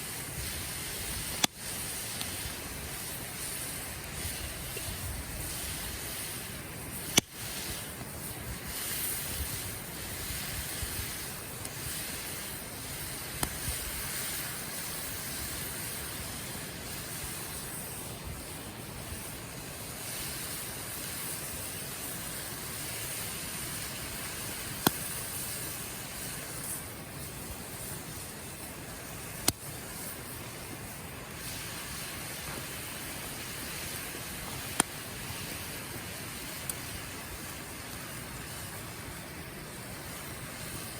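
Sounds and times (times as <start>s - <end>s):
campfire hissing: 0.0s - 40.9s
fire crackling pops: 0.0s - 40.9s.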